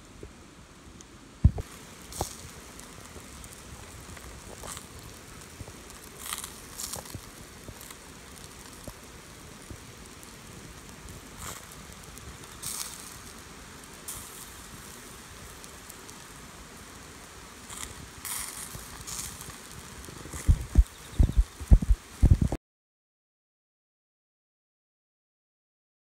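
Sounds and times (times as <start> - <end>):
meat grilling hiss: 0.7 - 22.5
sizzling spits and crackles: 1.4 - 22.6.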